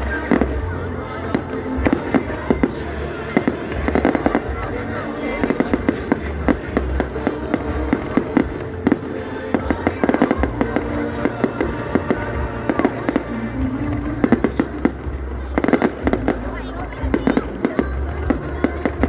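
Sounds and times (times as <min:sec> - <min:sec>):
fireworks cracks and bangs: 0:00.0 - 0:19.0
music playing: 0:00.0 - 0:19.0.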